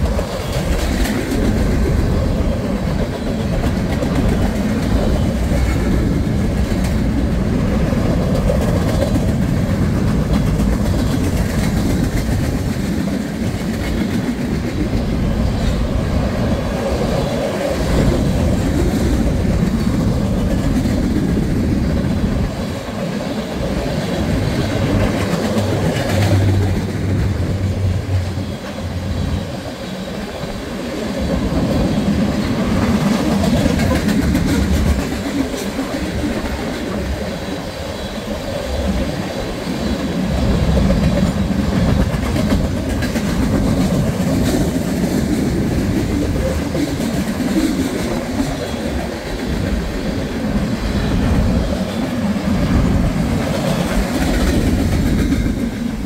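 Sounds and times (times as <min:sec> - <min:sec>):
freight train cars rolling: 0:00.0 - 0:56.0
steel wheels on rail: 0:00.0 - 0:56.0.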